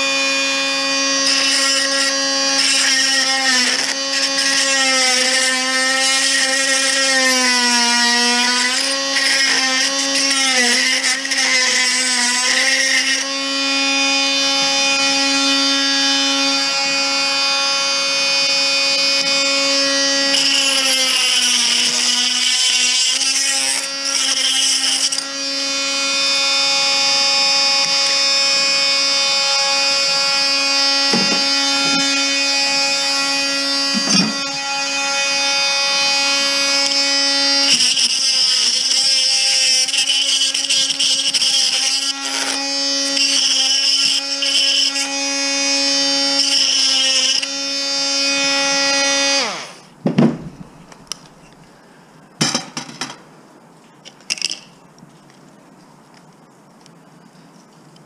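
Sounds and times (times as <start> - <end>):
power tool motor whining: 0.0 - 49.9.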